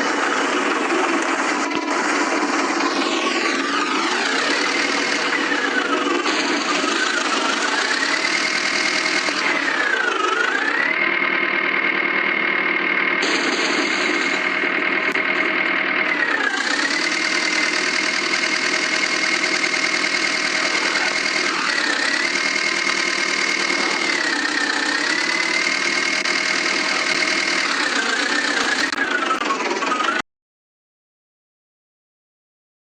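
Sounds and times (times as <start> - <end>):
tractor engine revving under load: 0.0 - 30.2.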